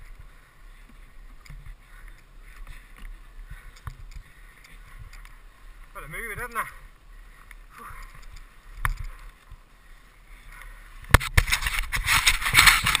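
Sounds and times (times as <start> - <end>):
rustling on microphone: 0.0 - 13.0.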